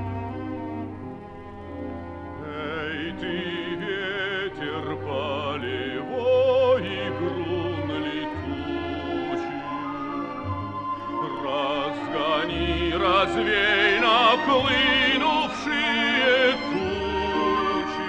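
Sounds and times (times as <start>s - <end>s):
orchestral melody with vibrato: 0.0s - 18.0s.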